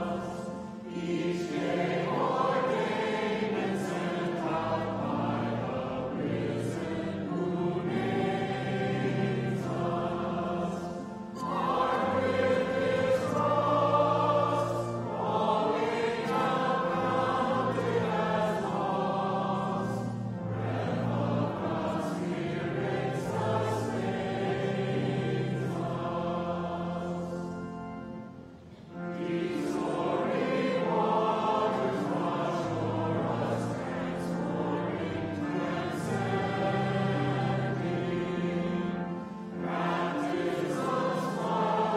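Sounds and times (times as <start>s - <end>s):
congregation singing a hymn: 0.0s - 41.9s.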